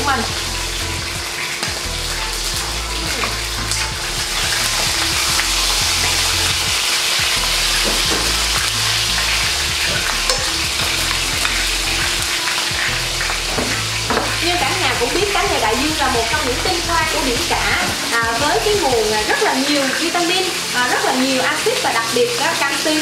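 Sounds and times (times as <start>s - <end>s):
fish sizzling in a frying pan: 0.0s - 23.0s.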